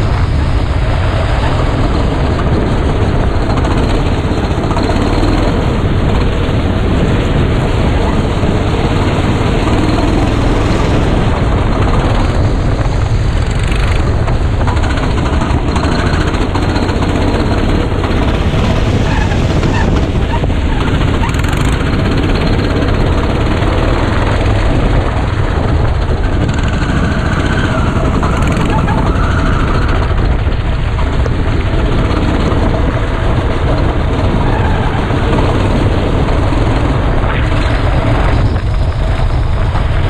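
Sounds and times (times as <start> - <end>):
go-kart engine running: 0.0 - 40.0.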